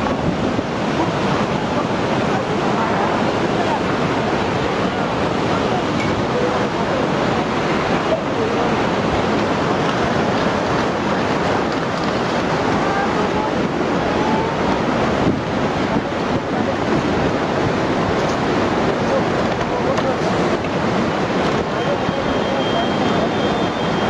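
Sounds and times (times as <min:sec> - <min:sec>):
floodwater rushing with debris: 0:00.0 - 0:24.0.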